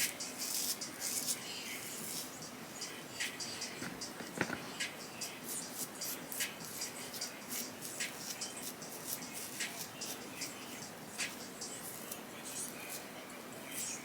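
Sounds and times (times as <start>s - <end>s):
brush strokes on hair: 0.0s - 14.0s.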